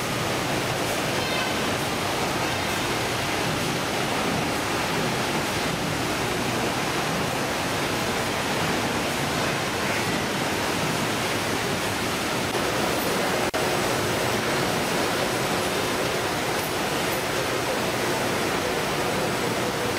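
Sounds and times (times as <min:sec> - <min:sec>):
conveyor machinery running: 0:00.0 - 0:19.9
running water: 0:00.0 - 0:19.9.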